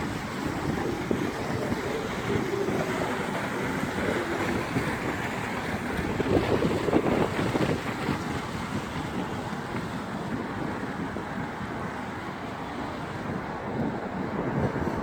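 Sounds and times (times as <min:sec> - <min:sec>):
ship noise: 0:00.0 - 0:15.0
water: 0:00.0 - 0:15.0
wind buffeting microphone: 0:00.0 - 0:15.0.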